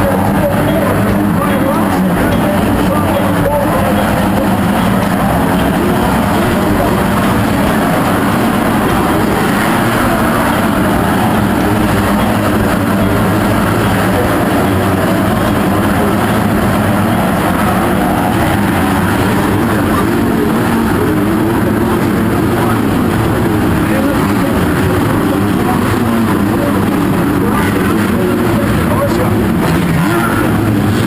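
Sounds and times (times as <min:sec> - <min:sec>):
dirt bike engines running: 0:00.0 - 0:31.0
indistinct voices: 0:00.0 - 0:31.0.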